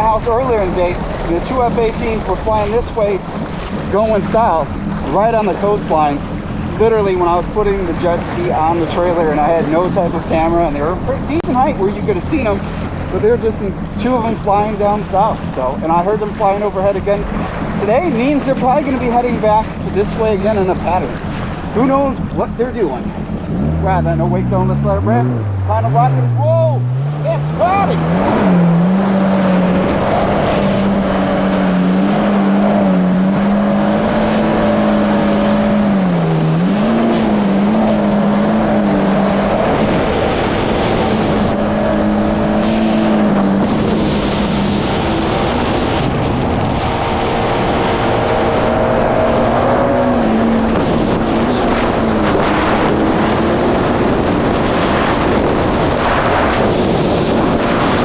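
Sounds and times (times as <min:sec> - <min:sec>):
jet ski engine running at speed: 0:00.0 - 0:58.0
water rushing: 0:00.0 - 0:58.0
wind: 0:00.0 - 0:58.0.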